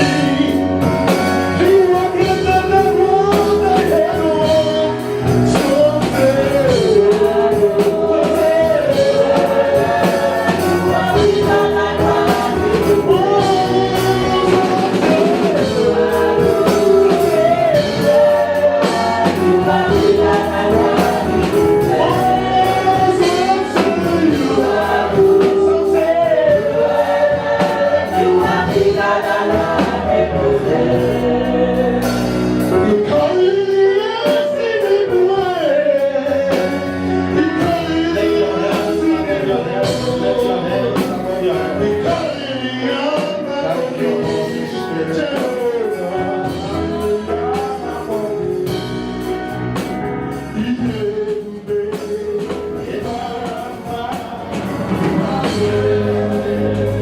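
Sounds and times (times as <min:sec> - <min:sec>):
bass line: 0:00.0 - 0:57.0
choir singing gospel music: 0:00.0 - 0:57.0
percussion: 0:00.0 - 0:57.0.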